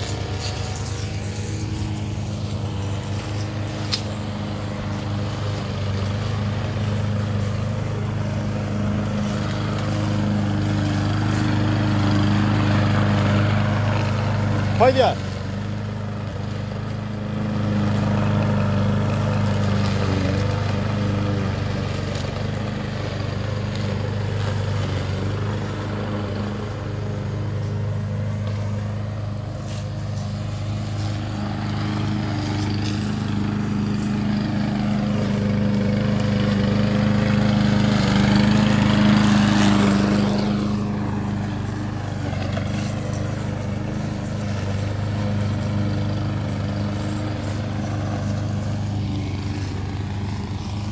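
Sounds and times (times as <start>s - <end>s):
lawn mower engine running: 0.0s - 50.9s.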